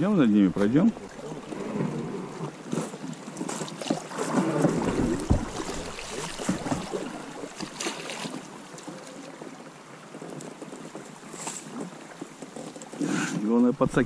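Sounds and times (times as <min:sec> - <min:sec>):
water splashing around a boat: 0:00.0 - 0:14.0
knocks and scrapes against hull: 0:00.3 - 0:09.1, 0:10.2 - 0:14.0.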